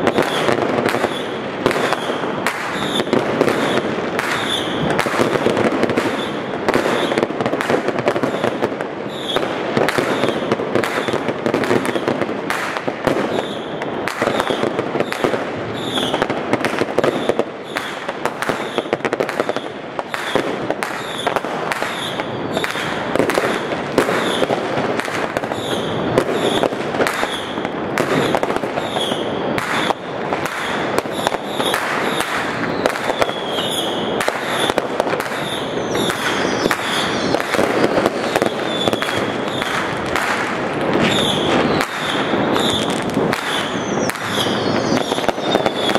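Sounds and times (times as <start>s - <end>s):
firecrackers and fireworks banging: 0.0s - 45.9s.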